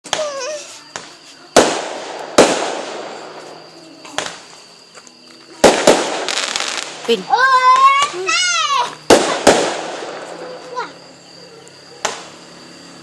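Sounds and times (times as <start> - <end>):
fireworks bangs: 0.0 - 4.6, 5.5 - 11.1, 11.8 - 12.6.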